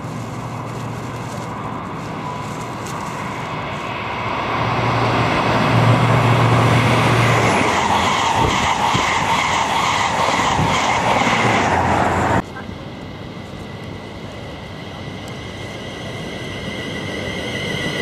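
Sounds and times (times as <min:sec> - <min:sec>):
low train engine hum: 0:00.0 - 0:18.0
train wheels rushing on rails: 0:00.0 - 0:18.0.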